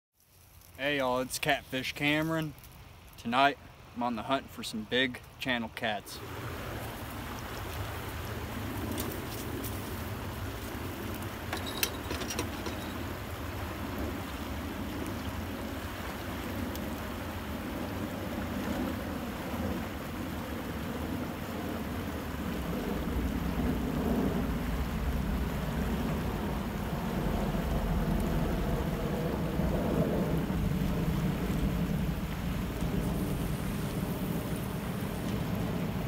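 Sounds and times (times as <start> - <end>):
fast-flowing river current: 1.0 - 36.0.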